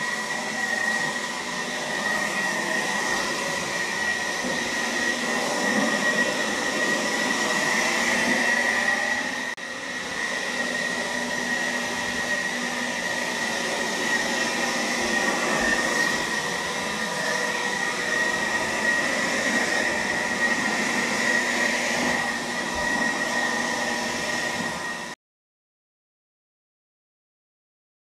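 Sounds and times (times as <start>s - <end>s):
handheld blower running: 0.0s - 25.2s.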